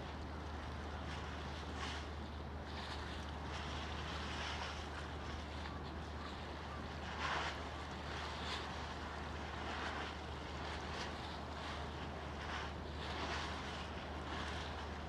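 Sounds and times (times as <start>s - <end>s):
harbour ambience: 0.0s - 15.0s
steady low hum: 0.0s - 15.0s.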